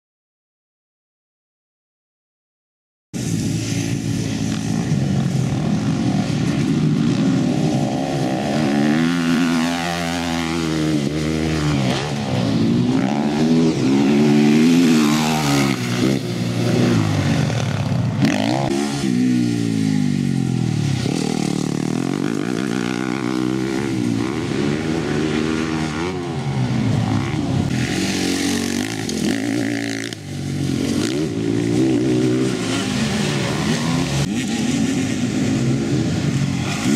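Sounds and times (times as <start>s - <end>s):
motocross bike engines revving: 3.2s - 36.9s.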